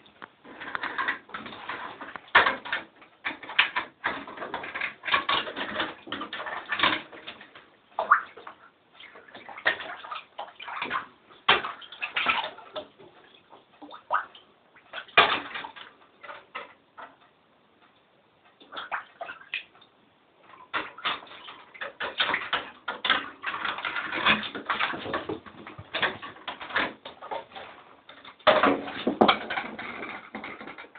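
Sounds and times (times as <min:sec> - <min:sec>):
water splashing and sloshing: 0:00.0 - 0:30.9.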